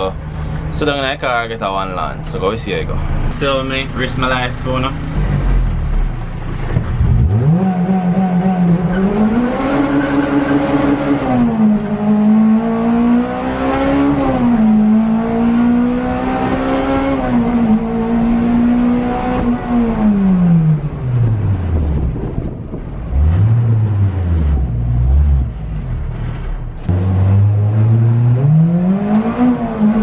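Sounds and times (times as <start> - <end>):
race car engine revving: 4.2 - 30.0.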